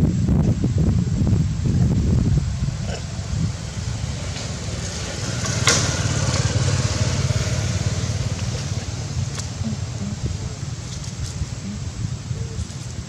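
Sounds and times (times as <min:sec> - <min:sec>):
small engine droning: 0:01.8 - 0:12.9.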